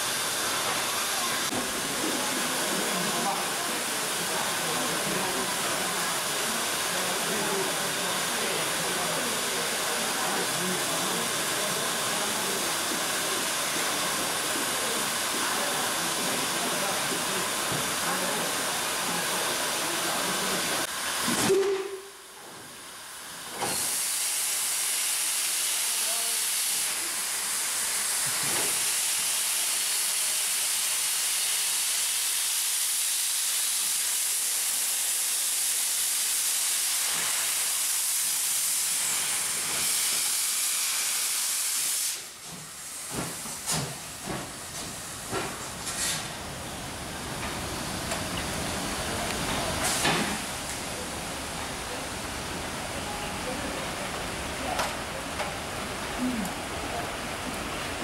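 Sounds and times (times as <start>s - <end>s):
steam locomotive venting steam: 0.0s - 58.0s.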